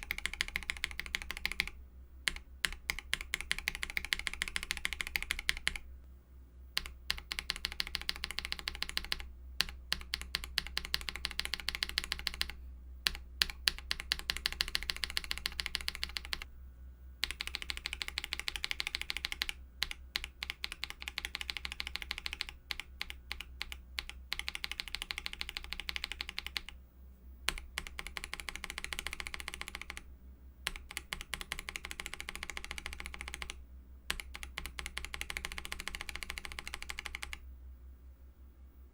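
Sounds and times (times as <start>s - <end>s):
fast typing on mechanical keyboard: 0.0s - 5.8s, 6.8s - 16.5s, 17.2s - 26.8s, 27.5s - 30.0s, 30.6s - 37.4s.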